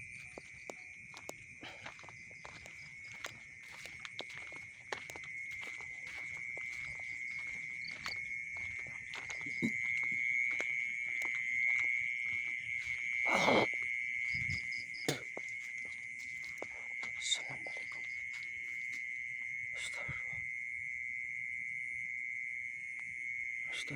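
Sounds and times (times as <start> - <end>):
night insects chirring: 0.0 - 23.9.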